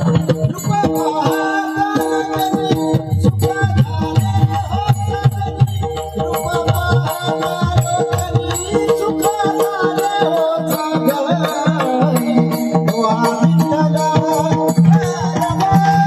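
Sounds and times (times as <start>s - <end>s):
high percussion beat: 0.0s - 16.0s.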